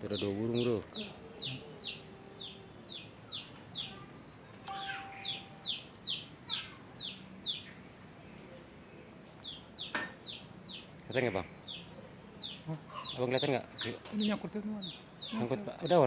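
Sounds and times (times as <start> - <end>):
bird chirping: 0.0 - 7.9, 9.3 - 16.0.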